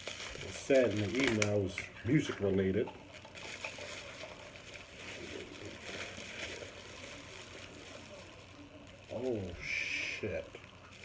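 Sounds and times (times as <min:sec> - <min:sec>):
package being unwrapped: 0:00.0 - 0:11.0.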